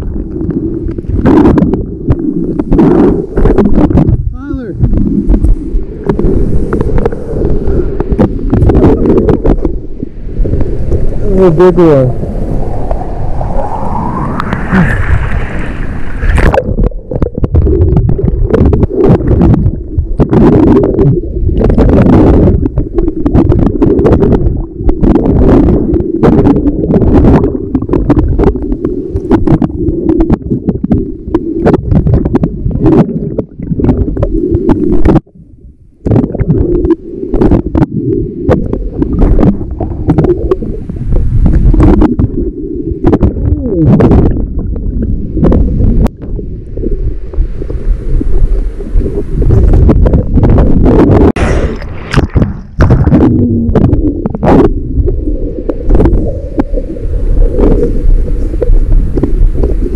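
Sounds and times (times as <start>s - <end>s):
muffled surf water sloshing: 0.0s - 59.9s.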